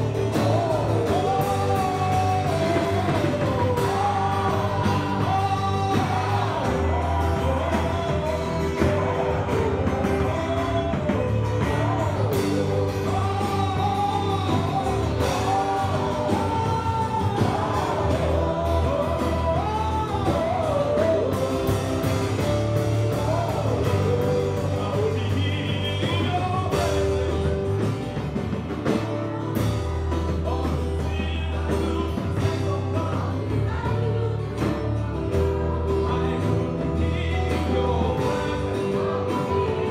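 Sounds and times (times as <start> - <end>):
band with deep bass line: 0.0 - 39.9
person singing: 0.0 - 39.9.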